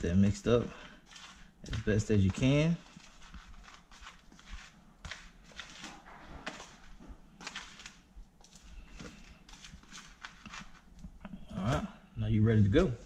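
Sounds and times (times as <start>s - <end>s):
hand mixing flour in container: 0.0s - 11.8s.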